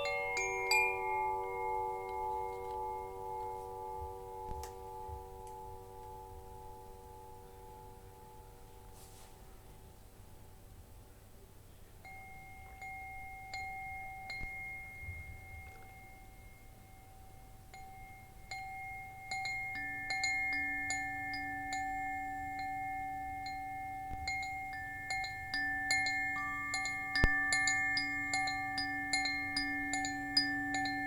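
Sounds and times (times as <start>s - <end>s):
lower-pitched chime: 0.0s - 8.9s, 12.0s - 31.0s
wind chimes ringing: 0.0s - 8.9s, 12.0s - 31.0s.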